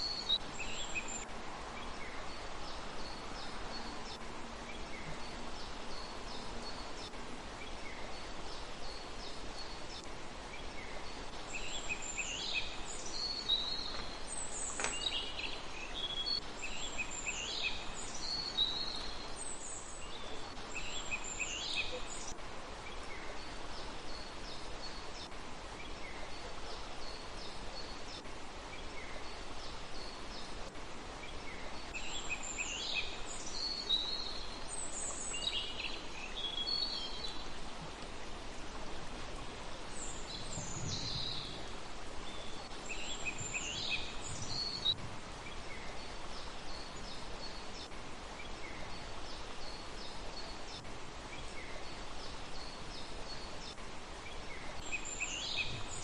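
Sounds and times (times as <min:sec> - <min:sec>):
small birds chirping and trilling: 0:00.0 - 0:38.9, 0:39.6 - 0:56.0
steady hiss: 0:00.0 - 0:56.0.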